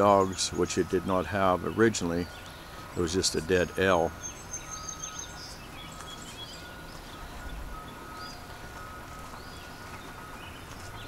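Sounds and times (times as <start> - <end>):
faint bird chirps: 0.0 - 11.0
outdoor background noise: 0.0 - 11.0.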